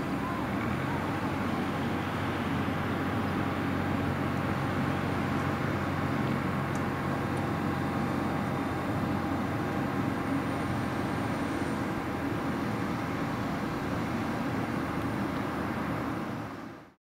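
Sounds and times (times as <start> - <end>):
light plane engine and propeller: 0.0 - 17.0.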